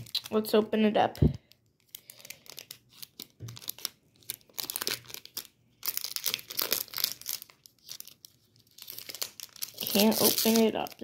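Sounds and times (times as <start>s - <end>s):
foil wrapper crinkling: 0.0s - 0.5s, 1.4s - 11.0s
foil wrapper tearing: 1.8s - 11.0s.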